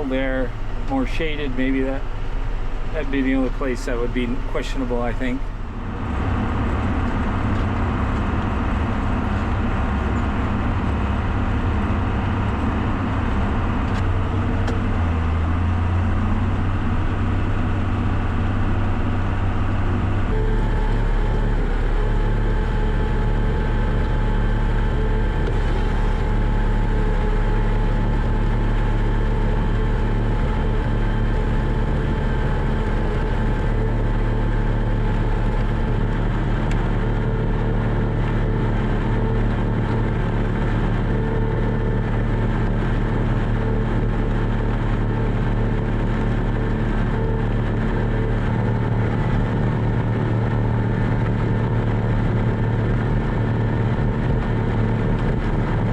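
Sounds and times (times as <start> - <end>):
tractor engine droning: 0.0 - 55.9.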